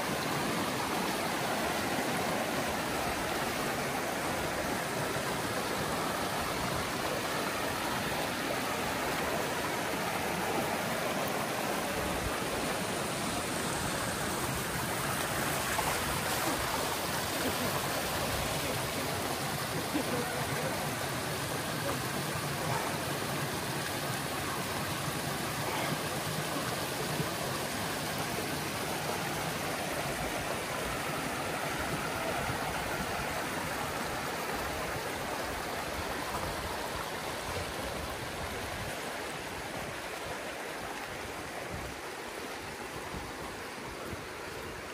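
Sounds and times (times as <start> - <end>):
river water flowing over rocks: 0.0 - 44.9.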